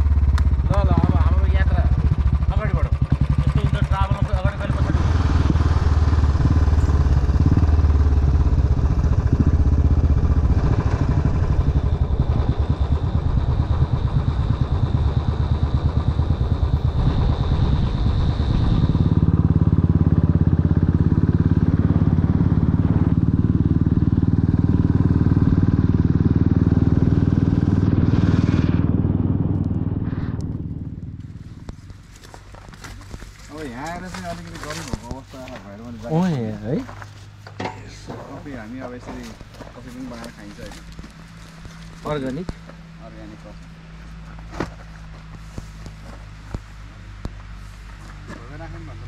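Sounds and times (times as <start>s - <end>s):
motorcycle engine droning: 0.0s - 49.0s.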